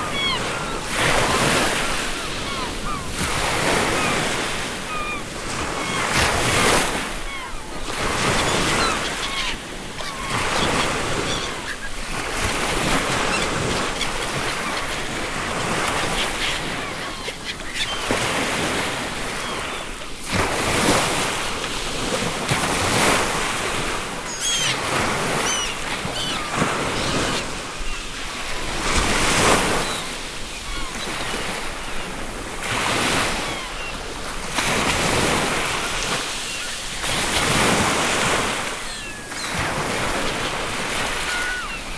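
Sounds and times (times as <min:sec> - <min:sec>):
seagulls calling: 0:00.0 - 0:21.6, 0:22.2 - 0:41.9
waves breaking: 0:00.0 - 0:41.9.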